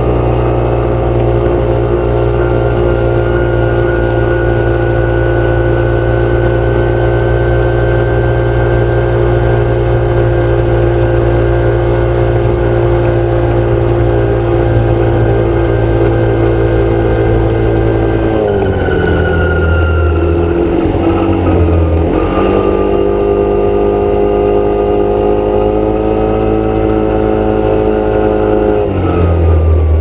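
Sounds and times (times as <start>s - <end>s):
engine running with low hum: 0.0s - 30.0s.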